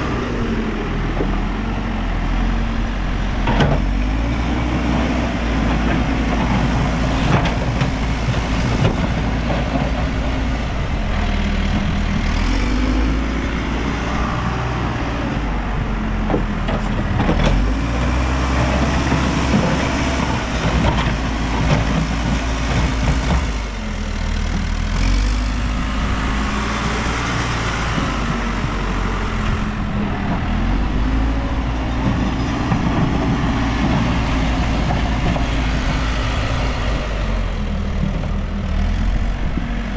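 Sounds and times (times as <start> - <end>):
backhoe diesel engine under load: 0.0 - 39.9.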